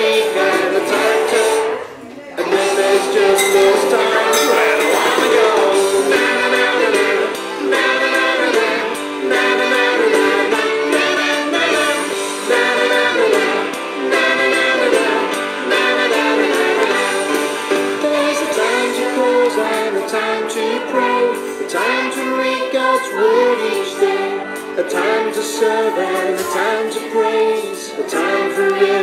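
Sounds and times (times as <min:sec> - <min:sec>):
worship song with singing: 0:00.0 - 0:29.0.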